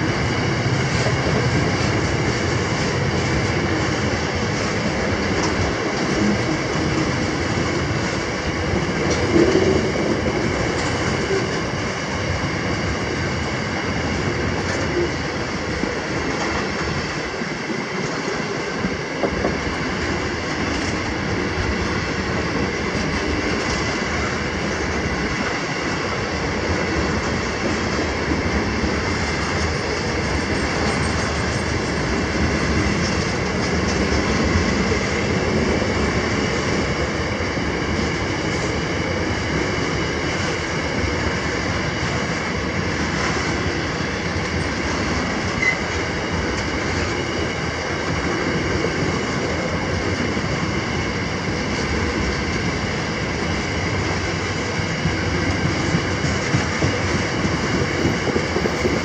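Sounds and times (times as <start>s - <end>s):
steel train wheels on rails: 0.0s - 59.0s.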